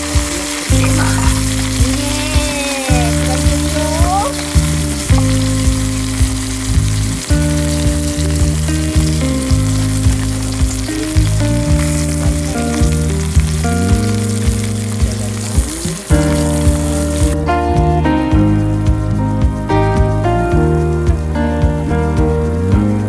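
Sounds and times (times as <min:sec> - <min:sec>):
background music with steady beat: 0:00.0 - 0:23.0
food sizzling in a pan: 0:00.0 - 0:23.0.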